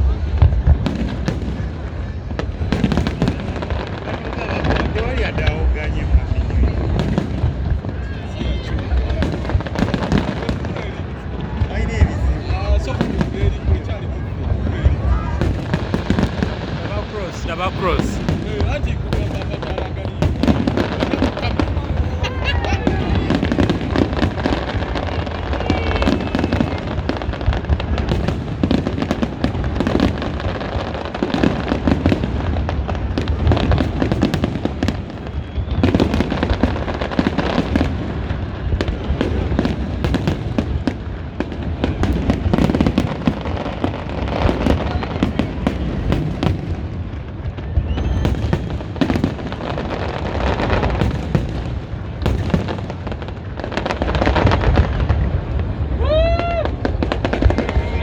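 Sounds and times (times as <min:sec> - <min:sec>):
fireworks bursting and crackling: 0:00.0 - 0:58.0
low fireworks booms: 0:00.0 - 0:58.0
whistling rockets: 0:00.0 - 0:58.0.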